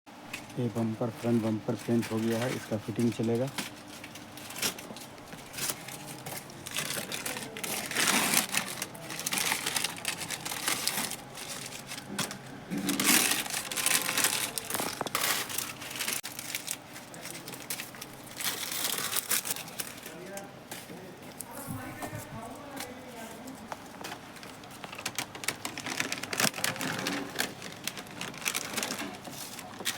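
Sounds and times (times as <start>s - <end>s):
paper and tape crinkling and tearing: 0.3s - 29.9s
loud paper rustles: 0.6s - 20.3s, 21.5s - 29.9s.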